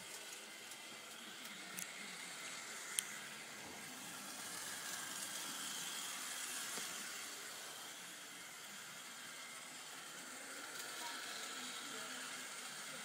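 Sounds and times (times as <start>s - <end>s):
model train rolling hiss: 0.0s - 13.0s.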